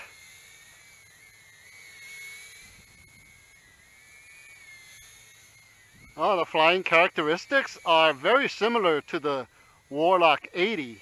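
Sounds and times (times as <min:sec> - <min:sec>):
quadcopter propeller whine: 0:00.0 - 0:11.0.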